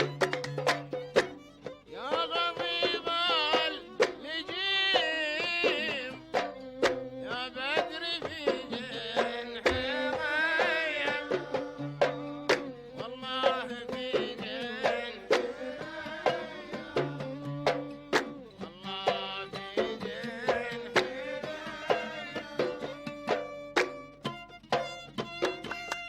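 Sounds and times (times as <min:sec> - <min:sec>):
hand drum strokes: 0:00.0 - 0:26.0.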